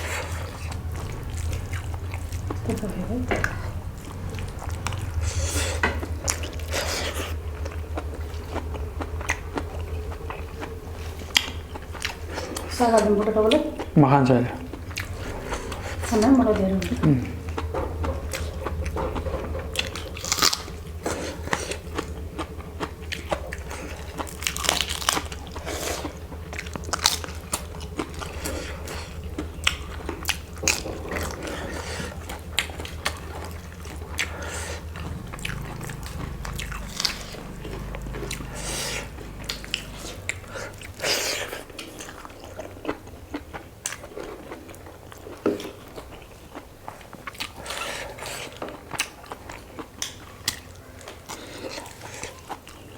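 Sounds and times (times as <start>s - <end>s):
crisp food crunching: 0.0s - 12.8s, 17.1s - 52.9s
chewing: 0.0s - 52.9s
low background hum: 0.0s - 52.9s.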